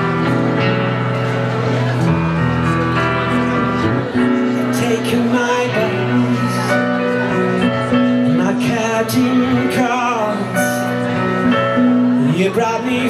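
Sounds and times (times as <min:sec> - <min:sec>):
acoustic guitar: 0:00.0 - 0:13.0
electric bass: 0:00.0 - 0:13.0
keyboard: 0:00.0 - 0:13.0.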